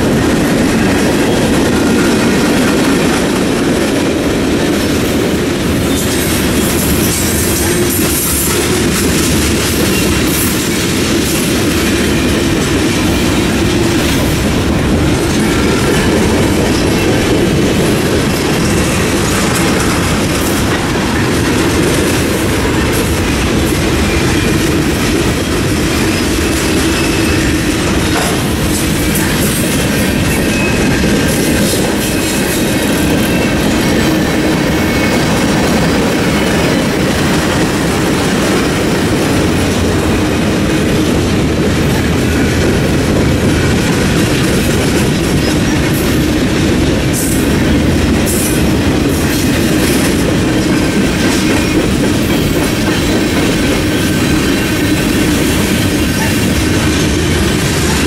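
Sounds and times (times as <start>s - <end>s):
freight train wheels rumbling: 0.0s - 58.0s
wheel clickety-clack over rail joints: 0.0s - 58.0s.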